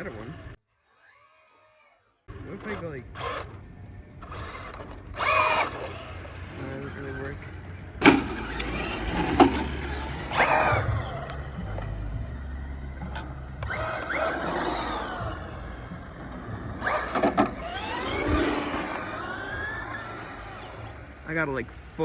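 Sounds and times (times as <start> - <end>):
rc truck motor whine: 0.0 - 22.0.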